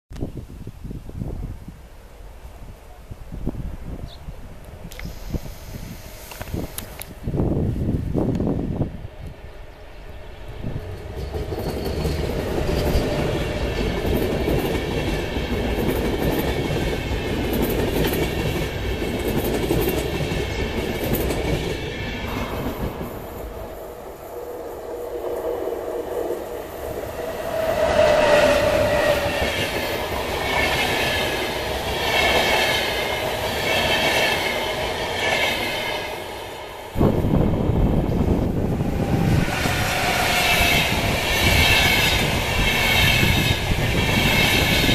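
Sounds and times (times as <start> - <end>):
train wheels rumbling on rail: 3.4 - 44.9.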